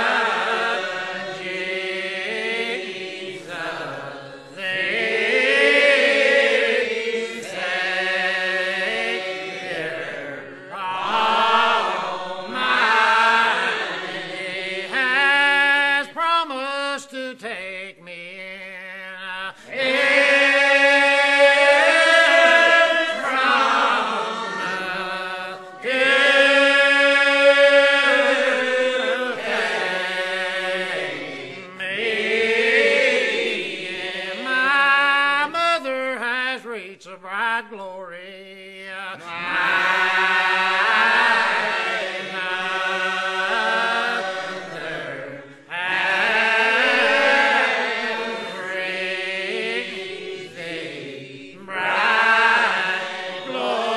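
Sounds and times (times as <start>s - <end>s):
hymn singing: 0.0s - 53.9s.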